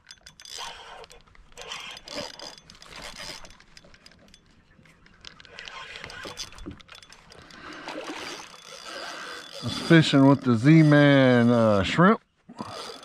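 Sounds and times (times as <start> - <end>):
fishing tackle clicks and knocks: 0.0 - 11.6.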